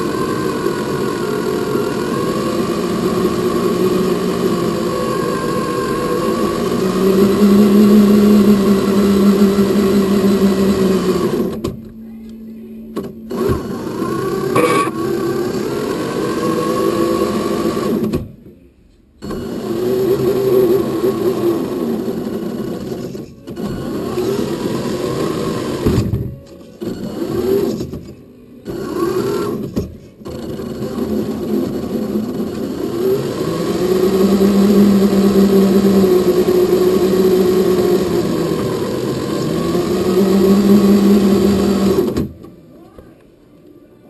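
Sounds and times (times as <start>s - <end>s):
electric motor and gearbox whirring: 0.0s - 18.3s, 19.2s - 42.5s.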